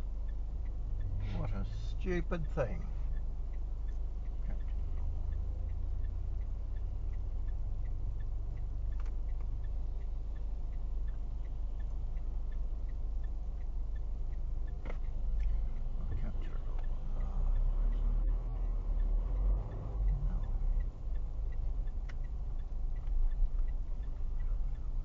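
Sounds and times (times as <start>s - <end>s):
car engine idling: 0.0s - 25.0s
light even ticking: 0.0s - 25.0s.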